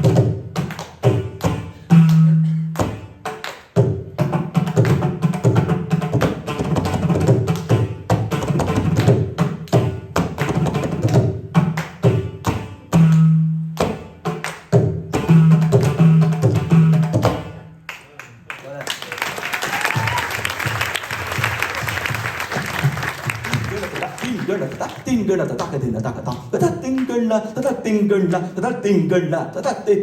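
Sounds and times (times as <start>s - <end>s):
hand drums playing fast rhythm: 0.0s - 17.7s, 19.9s - 27.8s.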